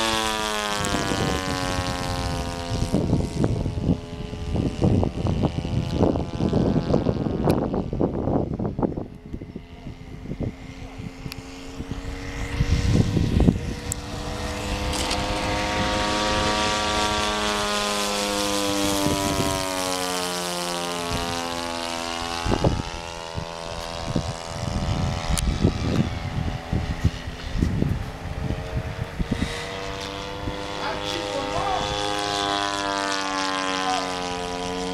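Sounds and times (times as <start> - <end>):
model plane engine and propeller: 0.0 - 34.9
wind buffeting microphone: 0.0 - 34.9.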